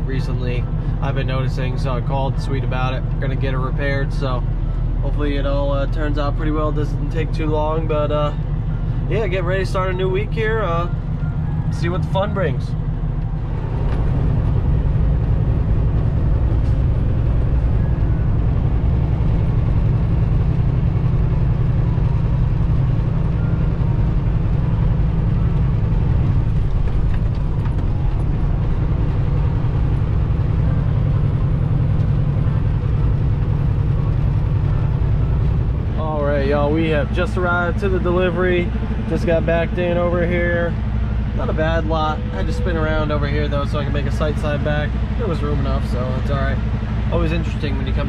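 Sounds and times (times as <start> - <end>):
road noise: 0.0 - 48.0
truck diesel engine running: 0.0 - 48.0.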